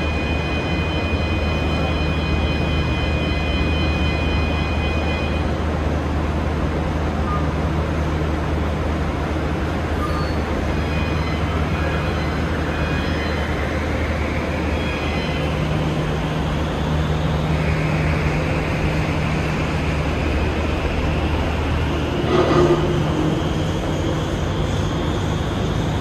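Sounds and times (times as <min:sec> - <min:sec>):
cable car cabin hum and rumble: 0:00.0 - 0:26.0.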